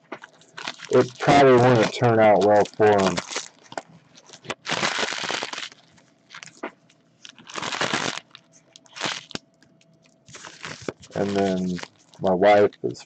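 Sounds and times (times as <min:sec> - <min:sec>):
foil wrappers crinkling and tearing: 0:00.2 - 0:09.4, 0:10.2 - 0:12.6.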